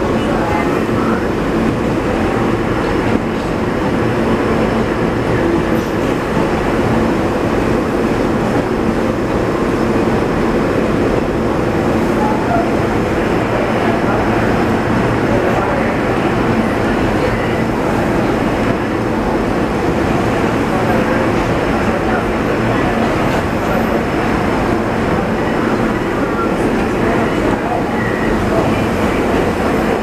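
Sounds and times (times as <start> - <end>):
subway train wheels rumbling: 0.0 - 30.0.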